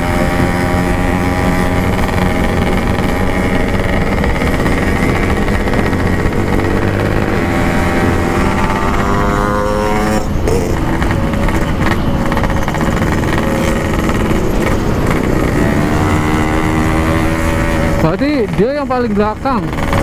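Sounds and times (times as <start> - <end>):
constant rushing noise: 0.0 - 20.0
two-stroke motorcycle engine: 0.0 - 20.0.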